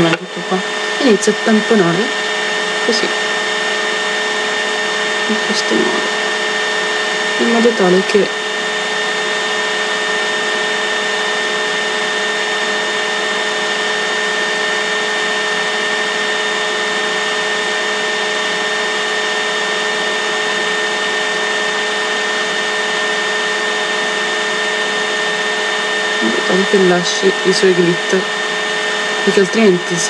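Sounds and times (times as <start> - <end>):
constant whining tones: 0.0 - 30.0.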